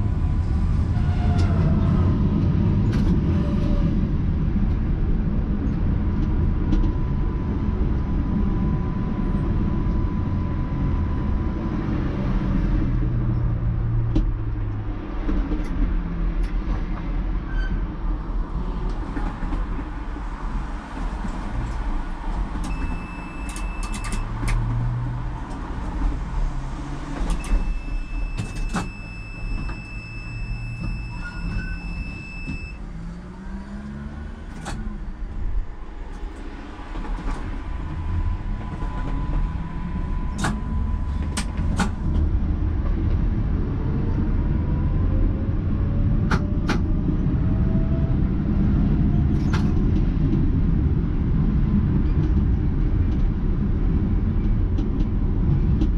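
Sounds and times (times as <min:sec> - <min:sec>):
tram rumbling on rails: 0:00.0 - 0:55.9.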